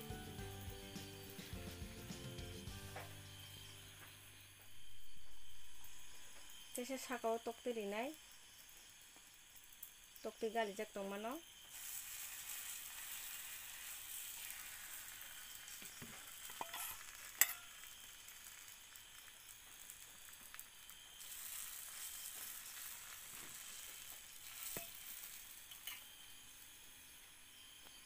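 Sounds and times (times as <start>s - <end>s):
omelette sizzling in a pan: 0.0s - 28.0s.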